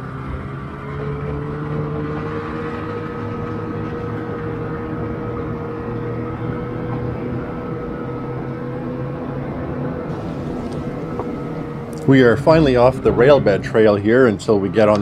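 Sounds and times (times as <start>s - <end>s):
snowmobile engine running: 0.0s - 14.4s.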